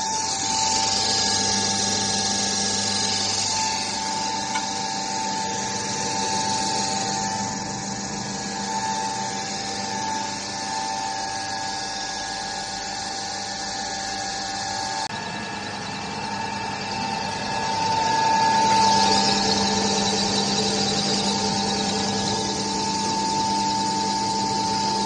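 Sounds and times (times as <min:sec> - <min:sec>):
machine motor high whine: 0:00.0 - 0:25.0.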